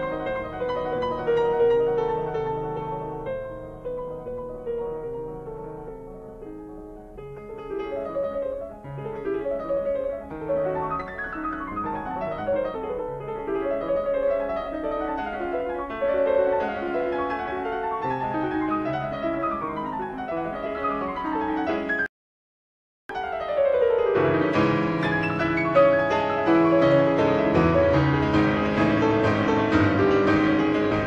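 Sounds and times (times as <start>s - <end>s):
piano music: 0.0s - 22.1s, 23.1s - 31.0s.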